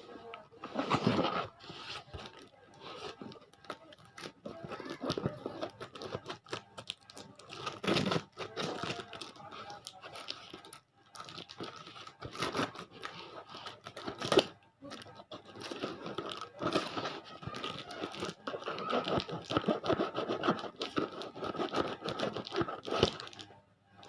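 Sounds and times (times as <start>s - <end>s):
parcel wrapping tearing and crinkling: 0.2s - 23.5s.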